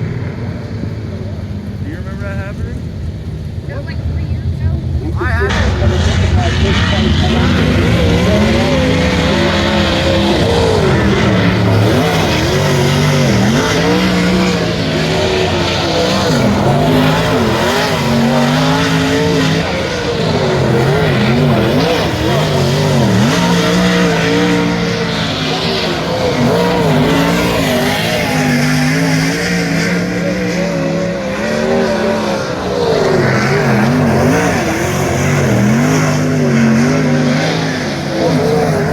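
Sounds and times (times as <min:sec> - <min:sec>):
racing car engines revving: 0:00.0 - 0:38.9.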